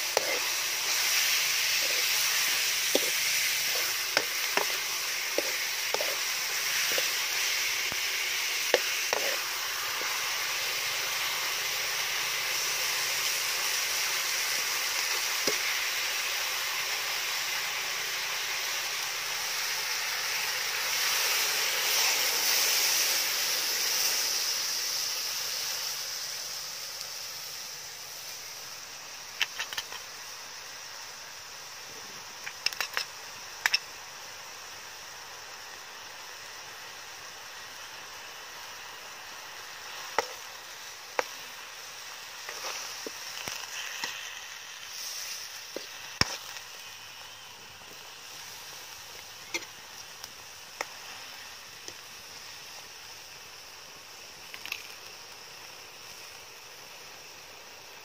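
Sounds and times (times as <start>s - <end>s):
fish sizzling in a wok: 0.0s - 58.0s.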